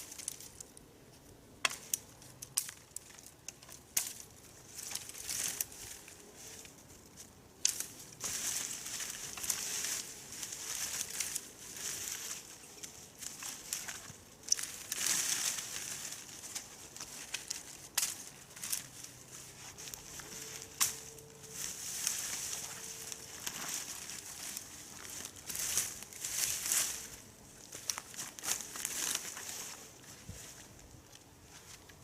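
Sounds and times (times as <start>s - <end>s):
dry leaves and twigs rustling: 0.0s - 32.0s
sharp crackles: 1.6s - 29.8s.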